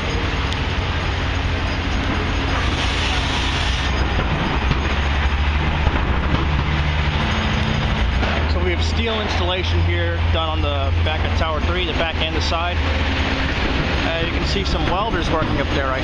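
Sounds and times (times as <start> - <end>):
train hum and rail rumble: 0.0 - 16.0.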